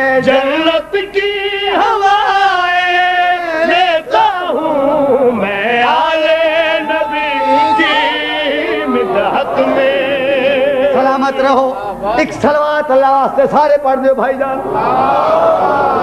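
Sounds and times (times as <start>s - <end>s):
man singing devotional song: 0.0s - 13.4s.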